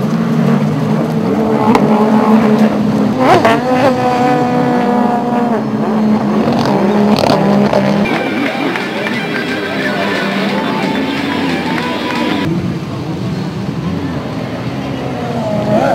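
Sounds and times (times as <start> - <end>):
jet ski engines revving: 0.0 - 15.9.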